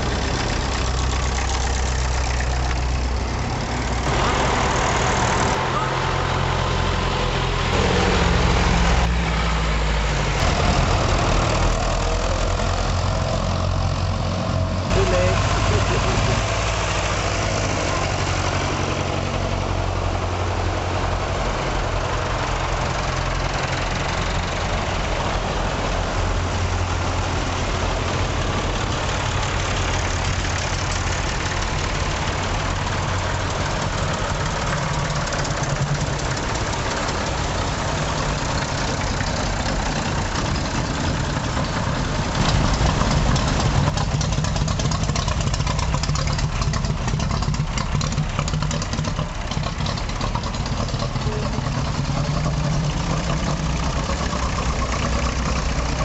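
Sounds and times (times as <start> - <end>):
tractor engines running: 0.0 - 56.0.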